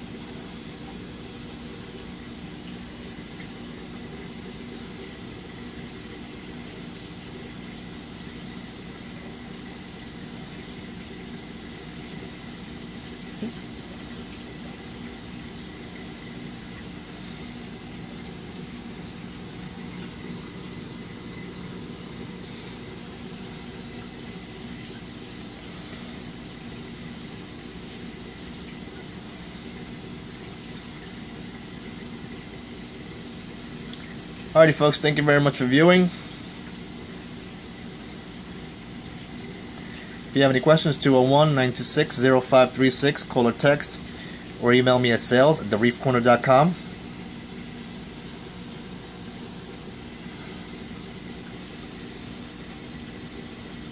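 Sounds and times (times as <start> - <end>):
aquarium pumps humming: 0.0 - 53.9
circulating water: 0.0 - 53.9.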